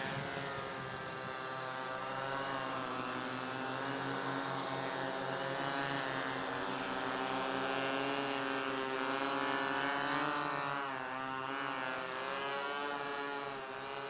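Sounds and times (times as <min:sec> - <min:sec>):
quadcopter propellers buzzing: 0:00.0 - 0:14.0.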